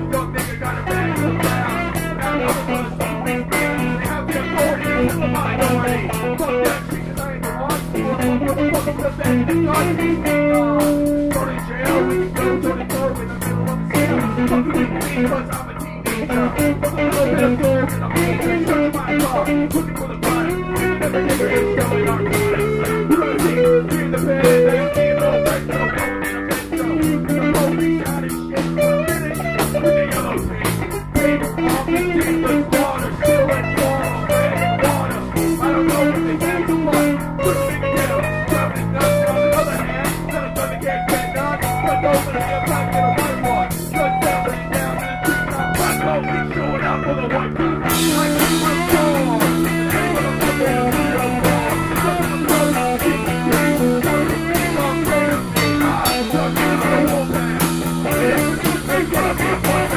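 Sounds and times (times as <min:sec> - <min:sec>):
bass line: 0:00.0 - 0:59.9
guitar melody: 0:00.0 - 0:59.9
steady beat: 0:00.0 - 0:59.9.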